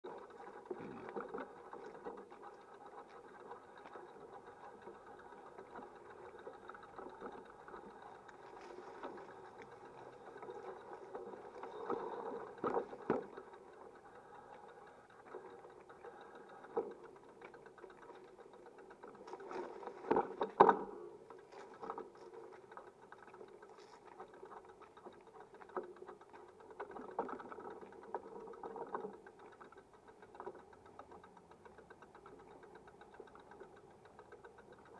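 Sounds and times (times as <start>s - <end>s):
small engine running on cobblestones: 0.0s - 34.9s
sharp knocks and rattles: 0.1s - 34.9s.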